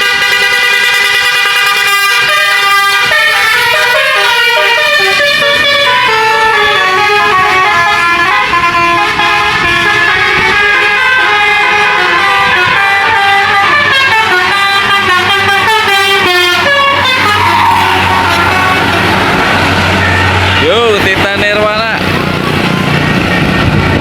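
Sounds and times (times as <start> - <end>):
multi-tone bus horn tune: 0.0 - 24.0.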